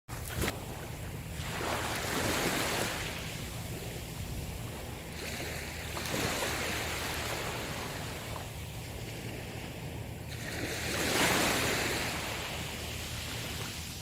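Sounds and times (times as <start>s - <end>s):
ocean waves breaking on shore: 0.1s - 14.0s.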